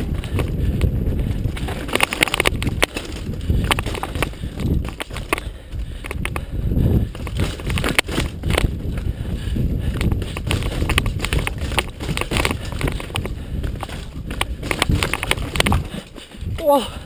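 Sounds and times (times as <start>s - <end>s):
bike rattling and knocking: 0.0s - 17.0s
bike tyres on dirt and rock: 0.0s - 17.0s
wind rumble on microphone: 0.0s - 17.0s.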